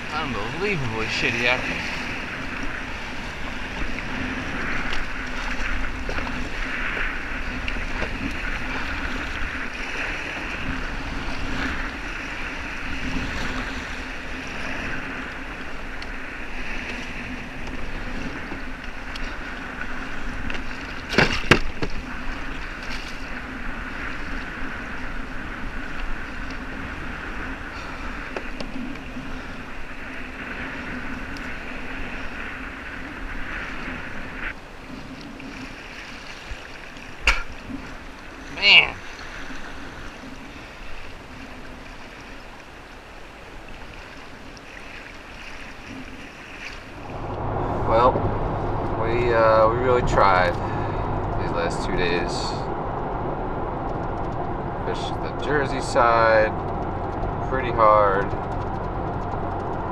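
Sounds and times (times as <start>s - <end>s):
water sloshing against kayak hull: 0.0s - 59.9s
wind on microphone: 0.0s - 59.9s.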